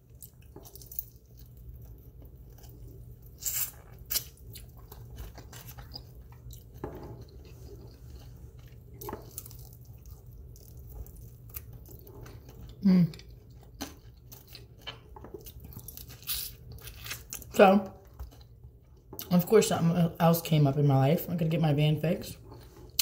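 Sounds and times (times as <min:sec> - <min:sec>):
person chewing food: 0:00.0 - 0:19.3
steady low hum: 0:00.0 - 0:23.0.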